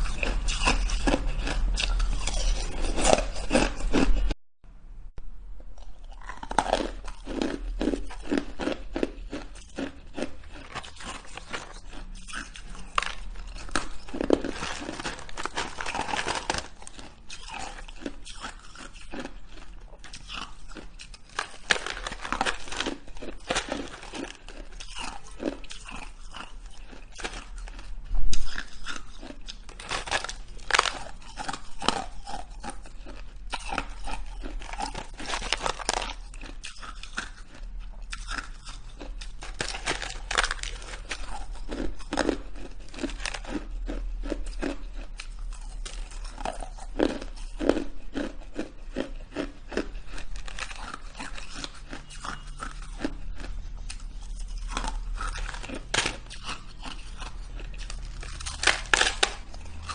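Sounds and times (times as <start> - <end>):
person chewing shaved ice: 0.0 - 4.4, 5.6 - 59.9.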